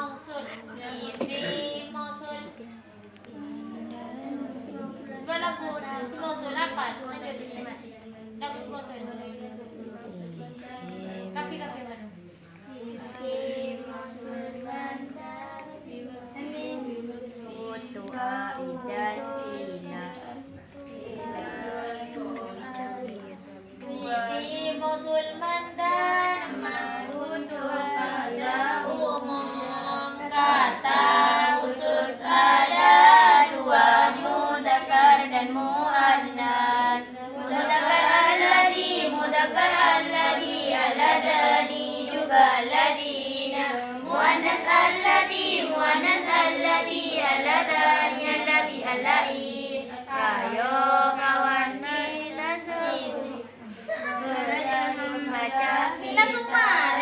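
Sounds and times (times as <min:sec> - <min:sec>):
girls chanting together: 0:00.0 - 0:02.5, 0:12.8 - 0:57.0.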